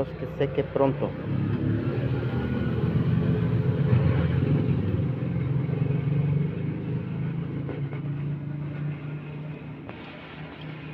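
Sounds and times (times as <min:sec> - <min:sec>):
vehicle engine running: 0:00.0 - 0:10.9.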